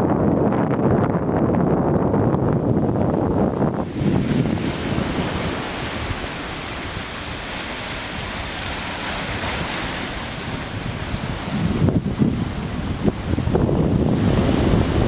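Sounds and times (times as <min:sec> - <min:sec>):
wind: 0:00.0 - 0:15.0
surf breaking over rocks: 0:01.7 - 0:15.0.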